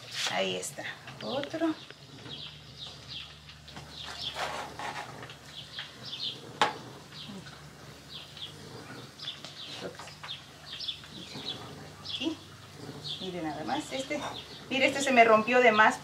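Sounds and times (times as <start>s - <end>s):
steady low hum: 0.0s - 16.0s
small birds chirping: 0.3s - 16.0s.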